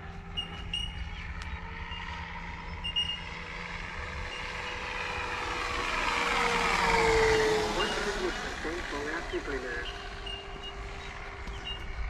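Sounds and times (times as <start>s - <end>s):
engine sound effect: 0.0s - 12.0s
model plane motor whine: 0.0s - 12.0s.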